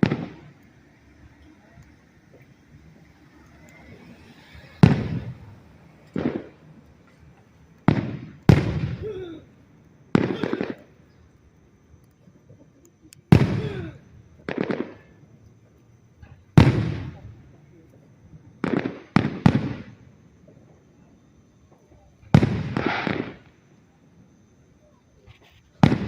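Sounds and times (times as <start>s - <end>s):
fireworks booming: 0.0s - 11.6s, 13.2s - 15.6s, 16.2s - 23.7s, 25.7s - 26.0s.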